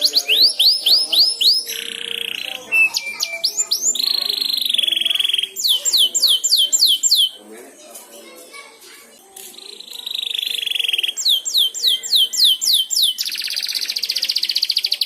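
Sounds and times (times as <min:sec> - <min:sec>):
canary buzzing trills: 0:00.0 - 0:07.4, 0:09.7 - 0:15.0
canary singing: 0:00.0 - 0:07.7, 0:09.4 - 0:15.0.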